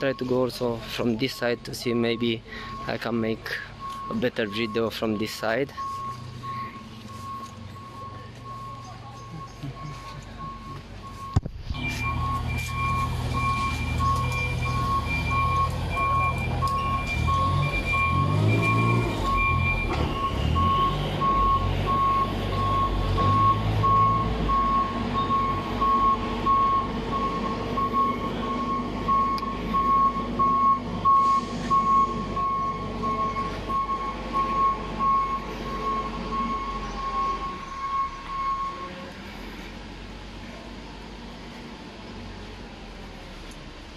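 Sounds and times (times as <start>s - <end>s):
reversing alarm beeping: 0.0s - 39.0s
vehicle engine rumble: 0.0s - 43.9s.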